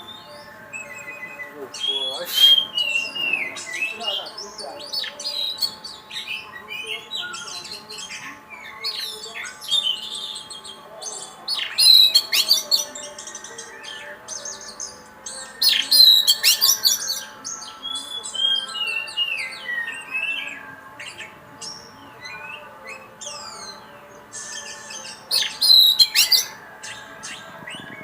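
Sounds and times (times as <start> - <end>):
songbird singing whistles and trills: 0.0 - 28.0.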